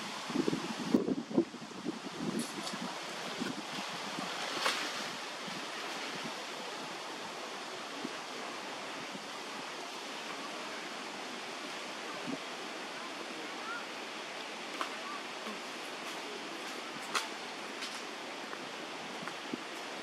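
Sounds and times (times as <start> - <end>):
rushing outdoor background noise: 0.0 - 20.0.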